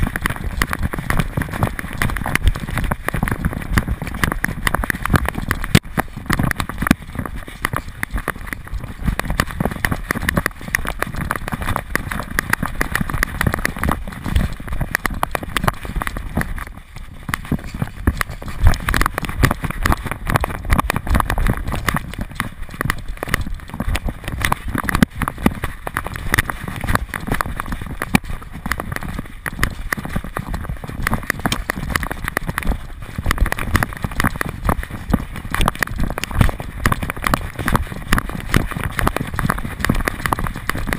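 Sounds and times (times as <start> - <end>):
camera knocking: 0.0 - 40.9.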